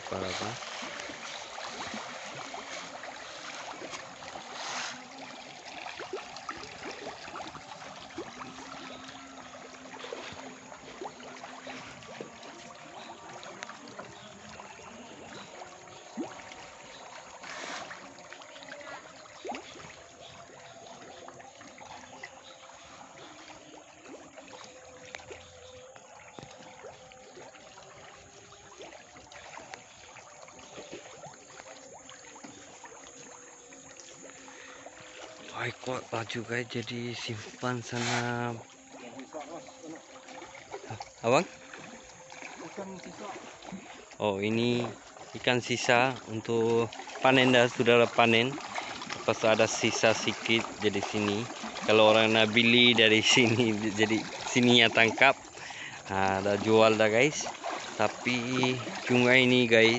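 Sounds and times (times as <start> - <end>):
fish splashing at water surface: 0.0 - 59.9.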